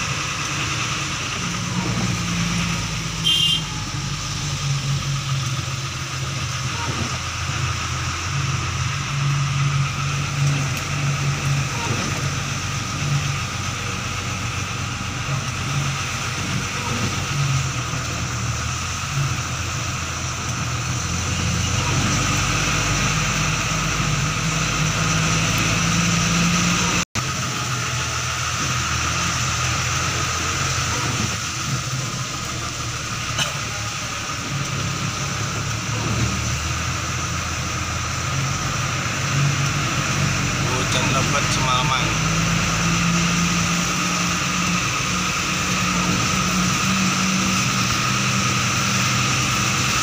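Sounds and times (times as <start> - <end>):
car engine running low speed: 0.0 - 50.0.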